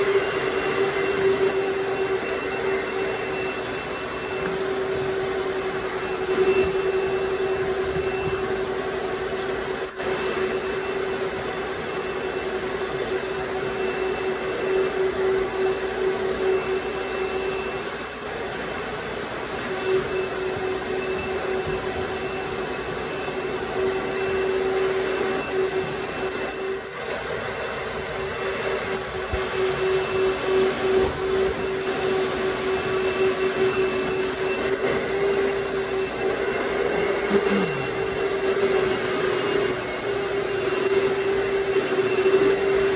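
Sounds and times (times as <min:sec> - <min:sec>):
electric blower motor whine: 0:00.0 - 0:42.9.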